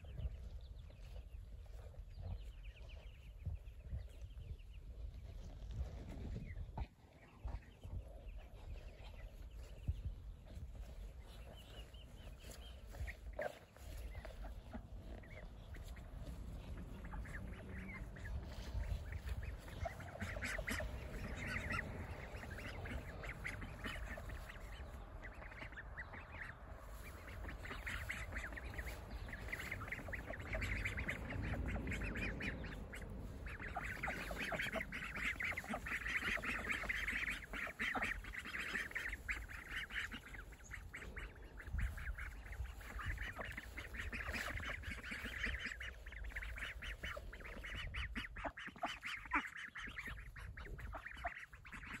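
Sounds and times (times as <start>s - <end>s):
ducks quacking: 0.0s - 52.0s.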